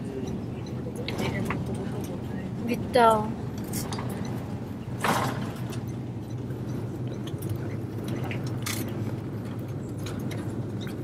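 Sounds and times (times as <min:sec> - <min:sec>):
airliner rumbling along runway: 0:00.0 - 0:11.0.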